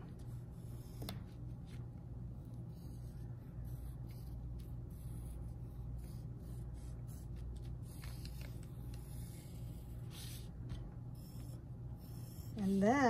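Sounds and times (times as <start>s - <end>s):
pencil scratching on paper: 0.0s - 13.0s
steady low hum: 0.0s - 13.0s.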